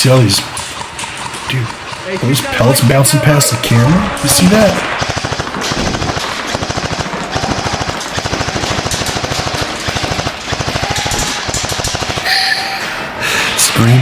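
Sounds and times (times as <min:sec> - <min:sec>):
airsoft guns firing full auto: 0:00.7 - 0:12.2.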